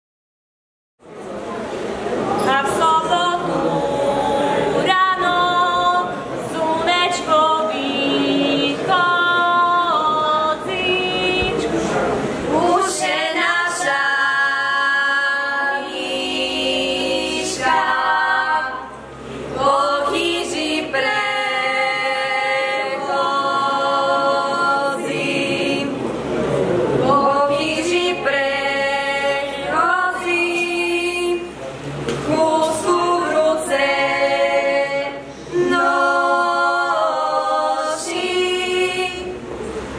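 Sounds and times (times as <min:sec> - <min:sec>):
women singing a cappella: 0:02.4 - 0:26.3, 0:27.0 - 0:39.6.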